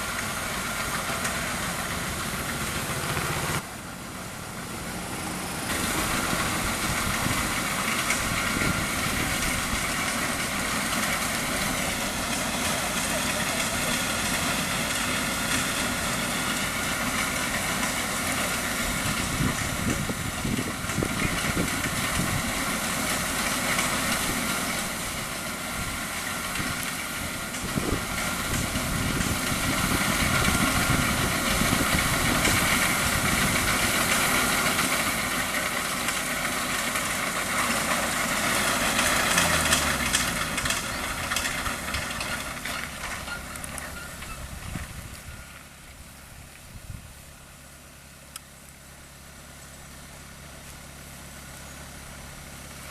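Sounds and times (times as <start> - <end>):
combine harvester engine whining: 0.0 - 52.9.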